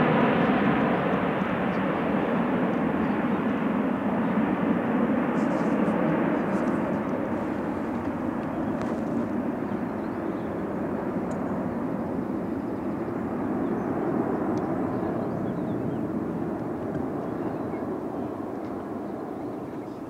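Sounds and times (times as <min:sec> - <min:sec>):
jet engines at takeoff power: 0:00.0 - 0:20.0.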